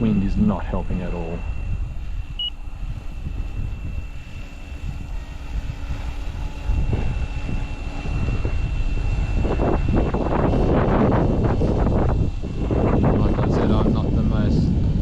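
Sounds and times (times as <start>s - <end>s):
rc helicopter motor whine: 0.0s - 15.0s
wind buffeting microphone: 0.0s - 15.0s.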